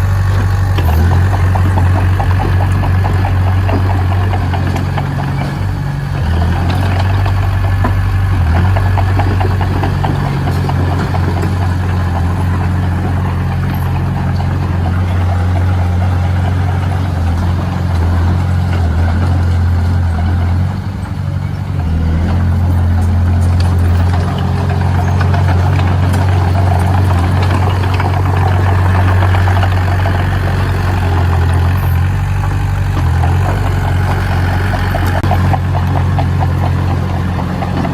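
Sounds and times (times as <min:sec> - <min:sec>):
heavy machine engine humming: 0:00.0 - 0:37.9.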